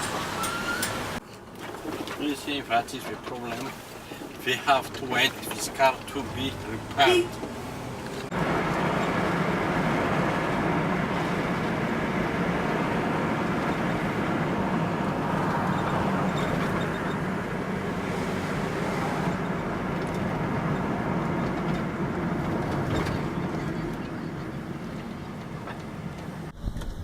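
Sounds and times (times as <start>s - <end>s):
road noise rumble: 0.0s - 27.0s
vehicle engine drone: 2.8s - 27.0s.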